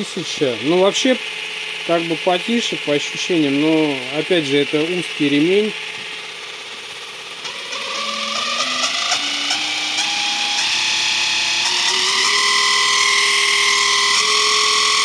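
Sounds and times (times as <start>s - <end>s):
lathe belt drive whining: 0.0s - 15.0s.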